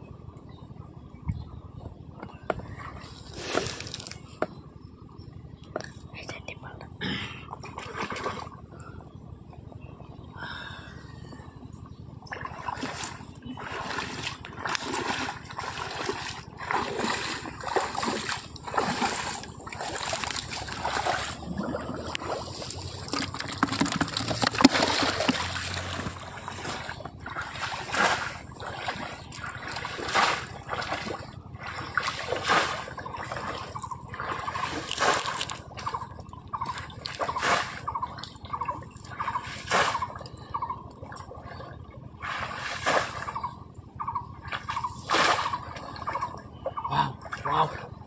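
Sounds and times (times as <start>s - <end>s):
shallow water splashing: 2.5s - 4.5s, 7.4s - 9.1s, 12.2s - 48.0s.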